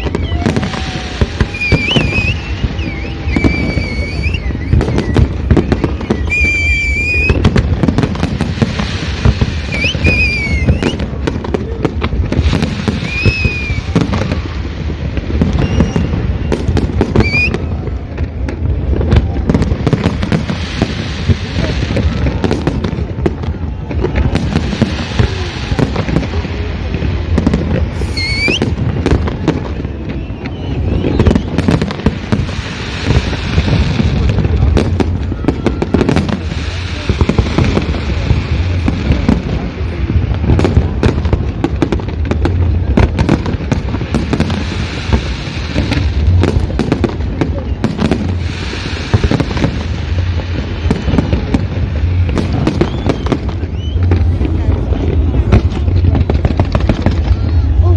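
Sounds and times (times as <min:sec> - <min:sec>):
firework whistles: 0:00.0 - 0:11.5, 0:12.2 - 0:57.9
firework bangs and crackling: 0:00.0 - 0:57.9.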